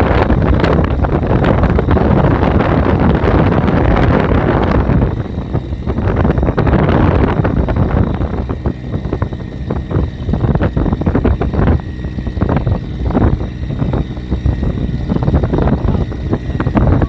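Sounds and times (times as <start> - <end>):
off-road vehicle rumble: 0.0 - 17.0
wind buffeting microphone: 0.0 - 17.0.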